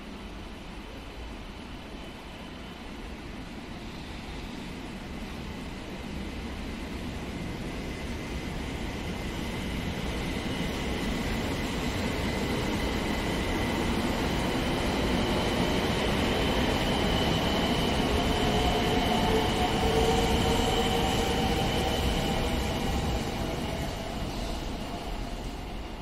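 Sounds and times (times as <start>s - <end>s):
high-speed train running noise: 0.0s - 26.0s.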